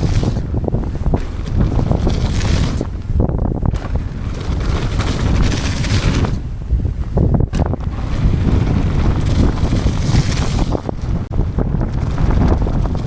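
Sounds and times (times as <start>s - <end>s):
bike knocks and rattles: 0.0s - 13.0s
tyres through mud and water: 0.0s - 13.0s
wind rushing over microphone: 0.0s - 13.0s.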